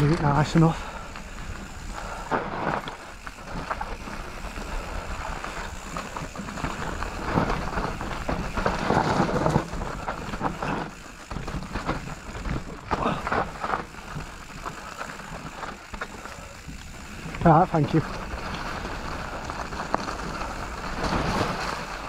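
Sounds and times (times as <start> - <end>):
bike clattering and rattling: 0.0 - 22.0
bike tyres on dirt: 0.0 - 22.0.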